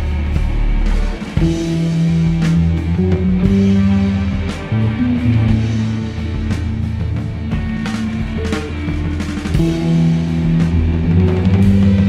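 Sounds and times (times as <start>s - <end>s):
bass notes: 0.0s - 12.0s
sustained guitar notes: 0.0s - 12.0s.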